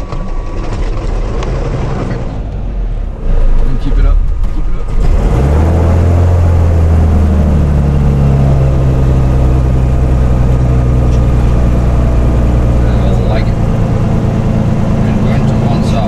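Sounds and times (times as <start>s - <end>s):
aircraft engine starting and running: 0.0s - 16.0s.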